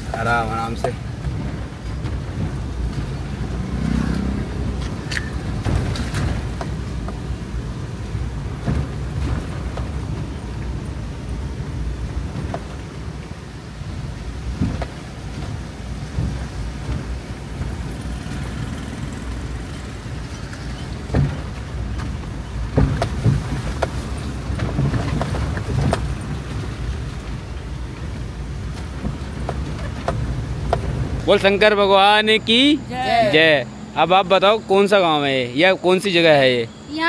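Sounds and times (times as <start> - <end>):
car knocks and rattles in potholes: 0.0 - 32.4
engine and tyres rumbling: 0.0 - 37.0.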